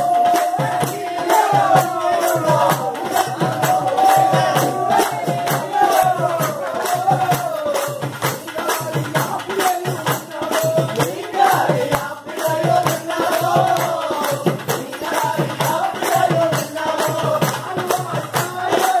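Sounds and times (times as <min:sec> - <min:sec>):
person singing devotional song: 0:00.0 - 0:19.0
steady percussion beat: 0:00.0 - 0:19.0.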